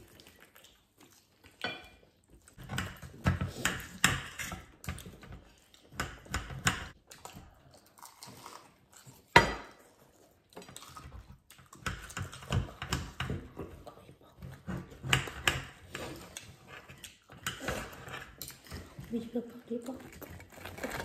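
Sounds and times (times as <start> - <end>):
chewing crispy food: 0.0 - 3.8, 6.9 - 21.0.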